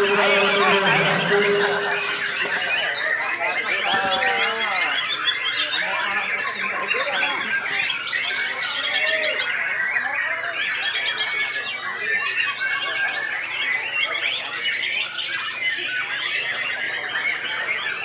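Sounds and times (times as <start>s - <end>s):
chorus of songbirds: 0.0s - 18.0s.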